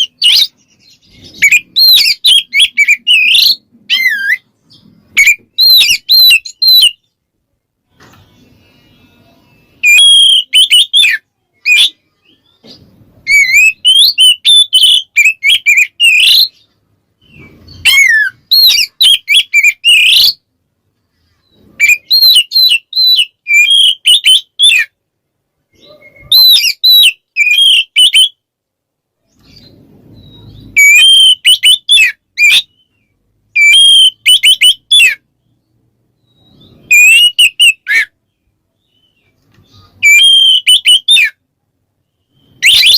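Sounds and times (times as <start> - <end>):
songbird whistling song: 0.0 - 7.3, 7.9 - 20.5, 21.1 - 25.0, 25.7 - 28.5, 29.2 - 41.4, 42.0 - 42.9.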